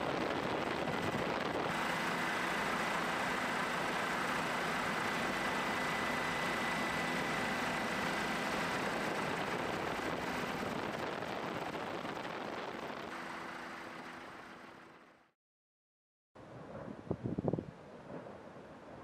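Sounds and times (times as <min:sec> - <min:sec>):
helicopter noise from aboard: 0:00.0 - 0:15.3.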